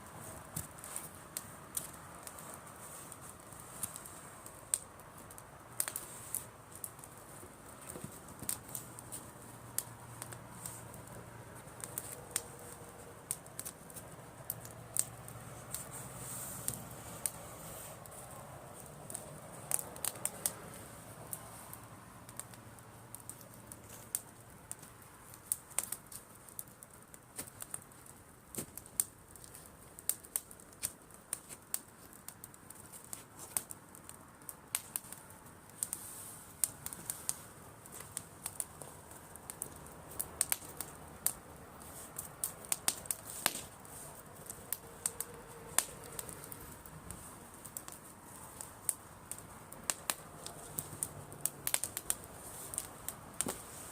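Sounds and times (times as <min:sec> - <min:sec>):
campfire crackling and popping: 0:00.0 - 0:53.9
soft steady hiss: 0:00.0 - 0:53.9.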